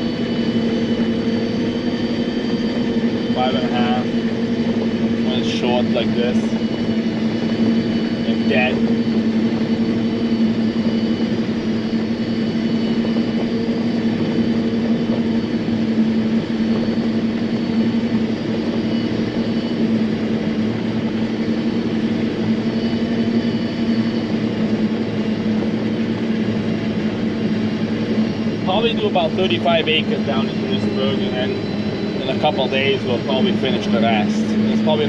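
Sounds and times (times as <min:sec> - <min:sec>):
harvester machine hum: 0:00.0 - 0:35.0.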